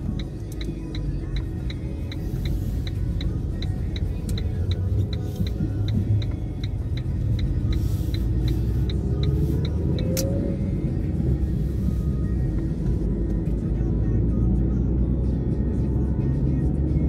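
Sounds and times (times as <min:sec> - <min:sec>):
turn indicator ticking: 0:00.0 - 0:14.3
car road and engine rumble: 0:00.0 - 0:17.0.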